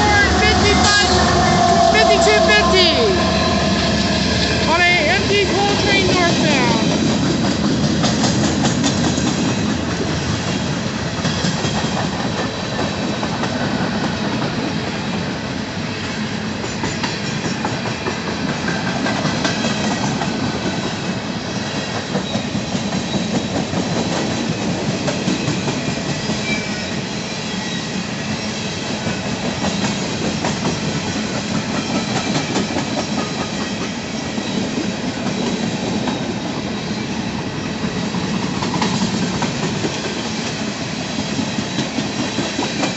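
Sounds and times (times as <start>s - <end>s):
freight train rolling past: 0.0s - 42.9s.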